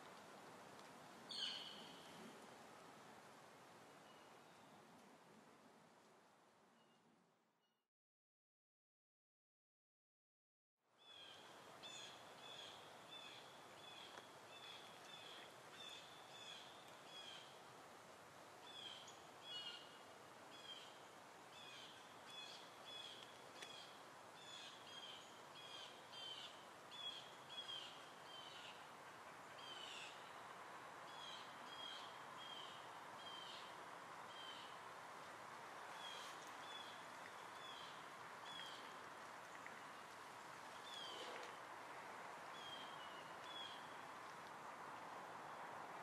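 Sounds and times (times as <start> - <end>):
faint steady hiss: 0.0 - 7.6, 10.9 - 46.0.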